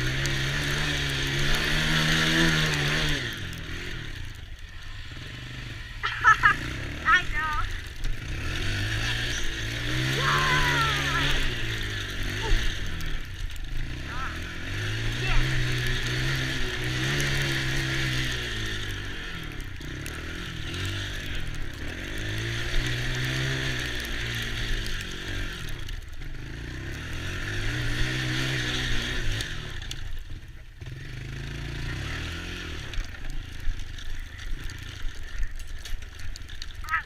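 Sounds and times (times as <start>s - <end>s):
small engine revving: 0.0s - 37.0s.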